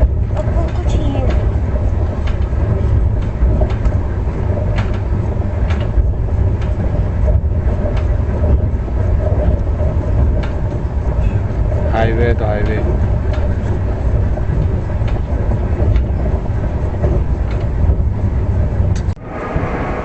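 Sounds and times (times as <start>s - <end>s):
wheels clicking and knocking: 0.0s - 19.2s
train rumbling: 0.0s - 20.0s.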